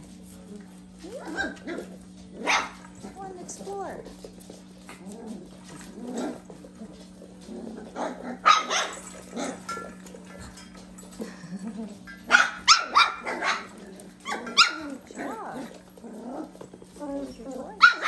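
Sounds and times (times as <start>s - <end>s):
faint steady hum: 0.0s - 18.0s
puppies yapping: 1.1s - 3.2s, 4.7s - 18.0s.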